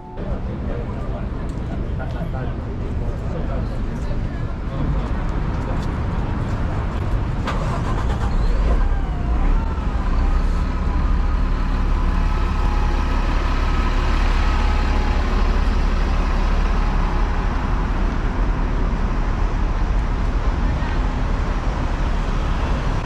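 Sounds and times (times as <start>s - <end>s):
city road traffic rumble: 0.0s - 23.0s.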